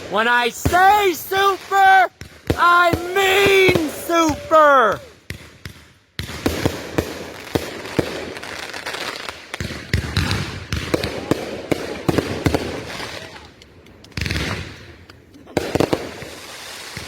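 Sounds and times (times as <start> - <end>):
fireworks bangs and pops: 0.0 - 17.0
fireworks crackling hiss: 0.0 - 17.0.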